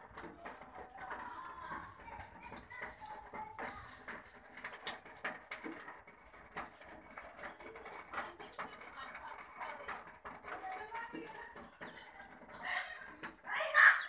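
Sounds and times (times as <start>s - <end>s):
light clicks and taps: 0.0s - 13.5s.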